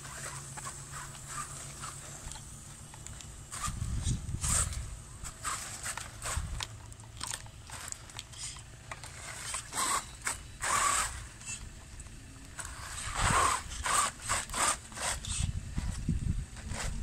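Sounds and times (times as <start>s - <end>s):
mechanical rattle: 0.0s - 17.0s
toy car scraping over dirt: 0.0s - 17.0s.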